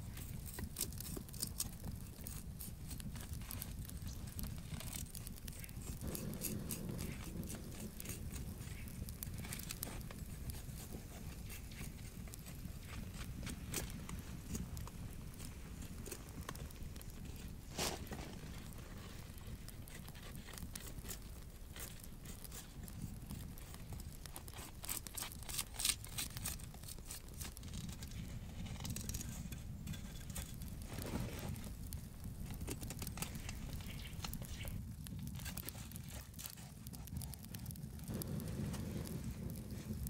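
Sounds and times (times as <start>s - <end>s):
knife shaving wood: 0.0s - 40.0s.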